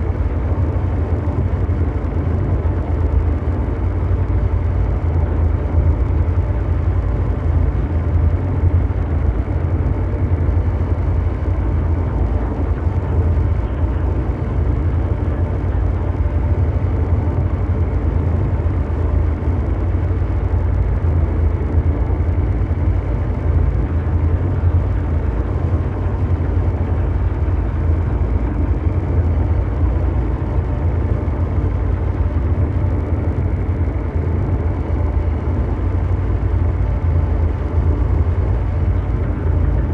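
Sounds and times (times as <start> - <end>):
faint steady hum: 0.0 - 39.9
mechanical drone: 0.0 - 39.9.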